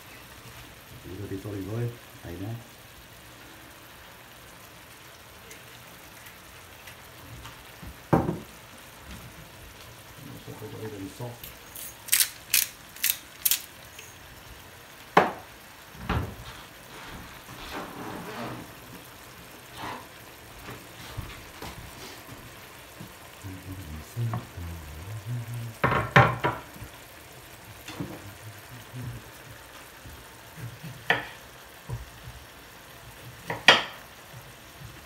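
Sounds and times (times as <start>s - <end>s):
fish sizzling in a frying pan: 0.0s - 35.0s.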